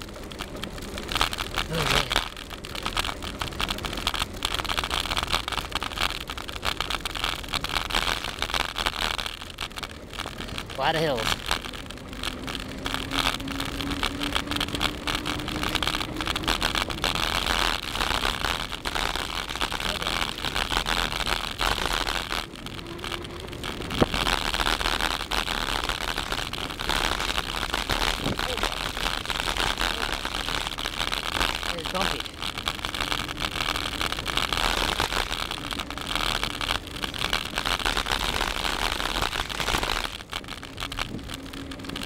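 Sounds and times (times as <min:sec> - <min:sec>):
bicycle rattling: 0:00.0 - 0:42.0
low road rumble: 0:00.0 - 0:42.0.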